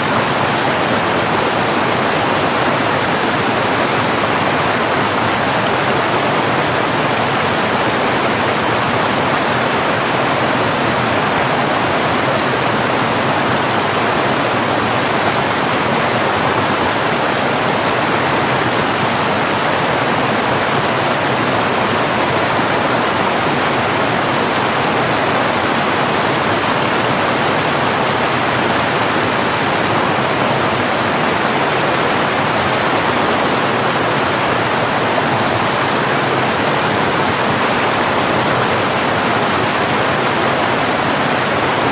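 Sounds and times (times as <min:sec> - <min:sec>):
flowing water rushing: 0:00.0 - 0:41.9.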